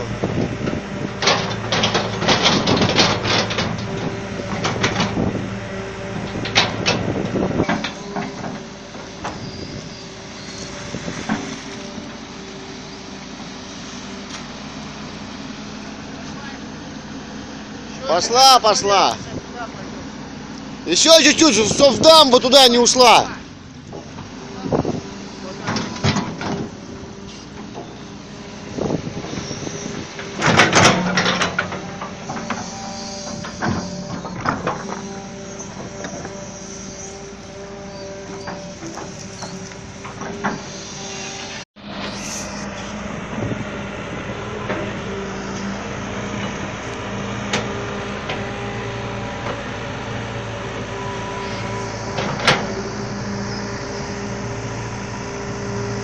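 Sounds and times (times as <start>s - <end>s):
clanks and knocks from tracks: 0.0s - 13.5s, 21.0s - 41.6s, 43.3s - 56.0s
excavator diesel engine running: 0.0s - 56.0s
hydraulic whine: 0.0s - 56.0s.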